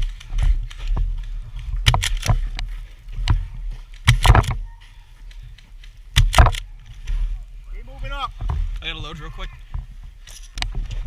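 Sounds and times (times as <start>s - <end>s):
footsteps in snow: 0.0s - 11.0s.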